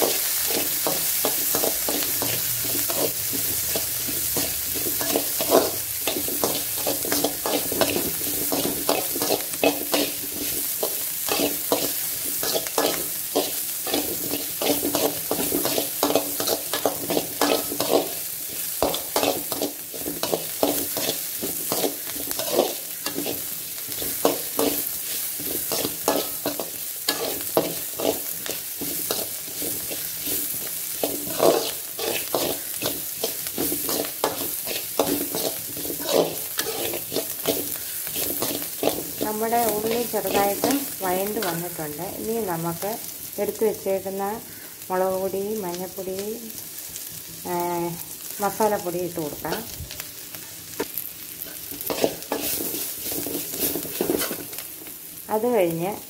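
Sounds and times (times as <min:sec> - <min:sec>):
spatula scraping a pan: 0:00.0 - 0:41.7, 0:50.8 - 0:54.6
onions sizzling in a pan: 0:00.0 - 0:56.0.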